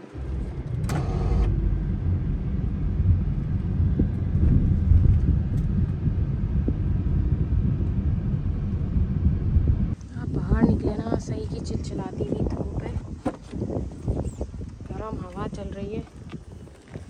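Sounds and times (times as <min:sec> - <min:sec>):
engine and tyre rumble in car: 0:00.0 - 0:10.0, 0:12.6 - 0:17.0.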